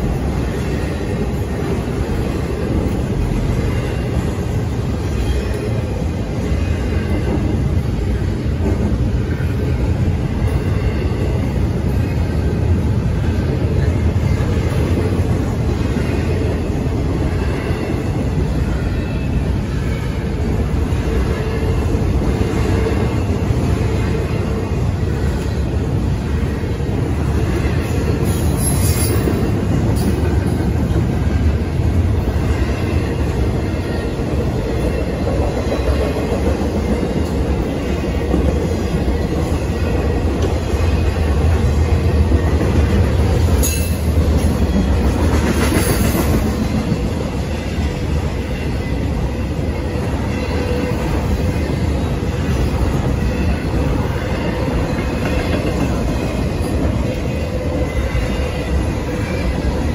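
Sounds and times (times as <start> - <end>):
freight train wheels rumbling and clacking: 0.0 - 59.9.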